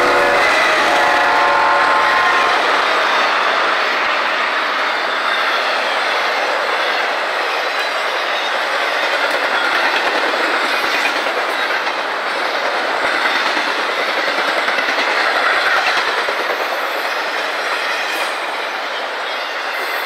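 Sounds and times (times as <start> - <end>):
steel wheels rushing on rail: 0.0 - 20.0.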